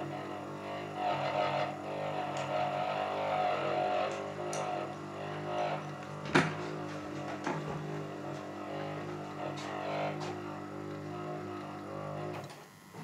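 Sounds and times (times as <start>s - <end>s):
geared motor droning and rattling: 0.0s - 13.0s
transformer buzzing hum: 0.0s - 13.0s.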